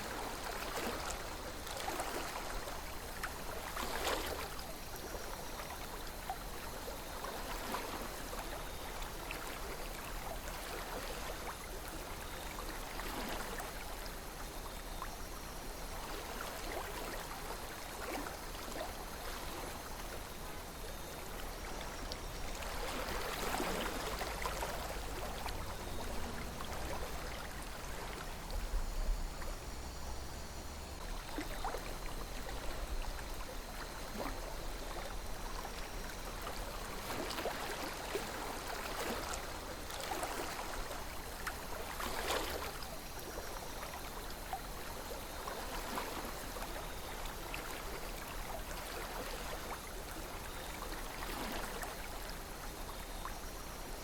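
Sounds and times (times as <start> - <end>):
river water burbling: 0.0 - 54.0.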